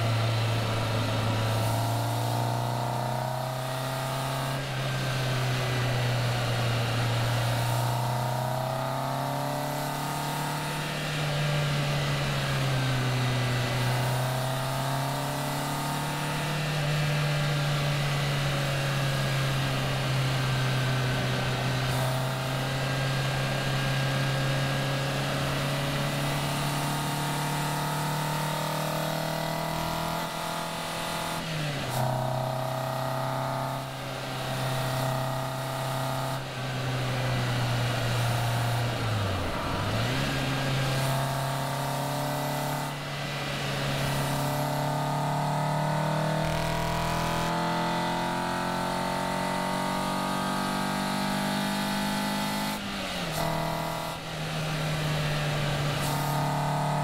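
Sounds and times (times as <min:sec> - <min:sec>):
car engine under way: 0:00.0 - 0:57.0
wind and road noise: 0:00.0 - 0:57.0.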